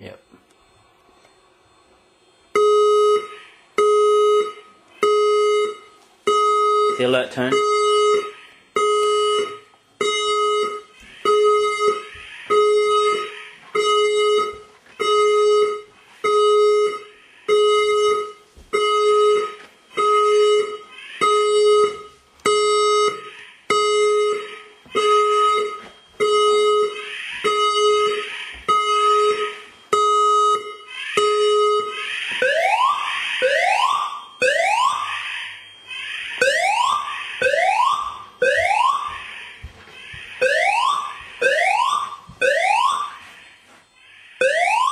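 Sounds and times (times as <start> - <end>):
fire alarm low steady beep: 2.4 - 44.9.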